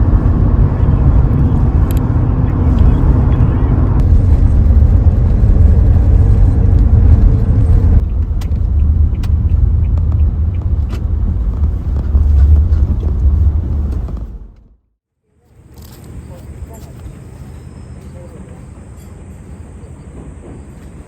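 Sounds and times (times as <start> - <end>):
vehicle road and engine rumble: 0.0 - 21.0.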